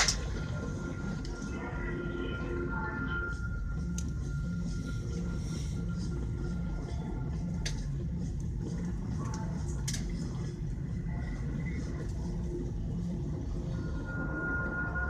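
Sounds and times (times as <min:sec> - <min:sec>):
jet engines idling rumble: 0:00.0 - 0:15.0.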